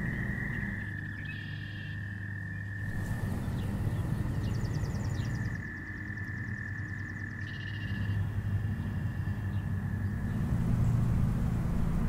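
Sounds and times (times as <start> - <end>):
fast high pulsing frog call: 0.0 - 10.6
frogs trilling: 0.0 - 12.0
low hum: 0.0 - 12.0.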